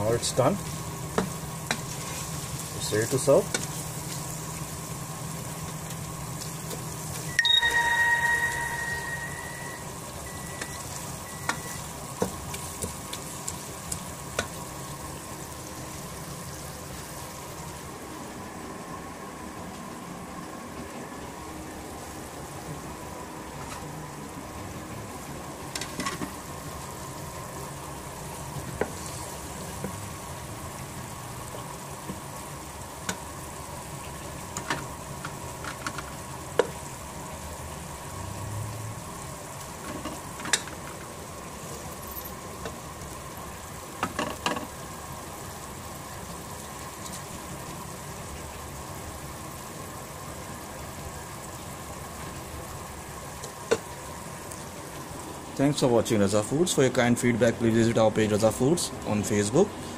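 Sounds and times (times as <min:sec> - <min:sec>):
vegetables sizzling in oil: 0:00.0 - 0:55.6.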